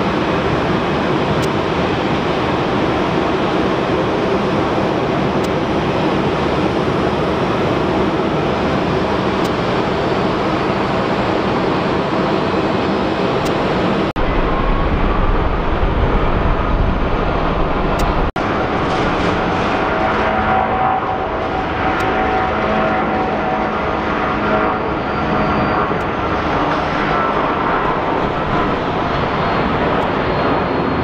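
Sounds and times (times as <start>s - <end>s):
deep rumble with engine whine: 0.0s - 31.0s
distant jet airliners roaring: 0.0s - 31.0s
wind: 0.0s - 31.0s.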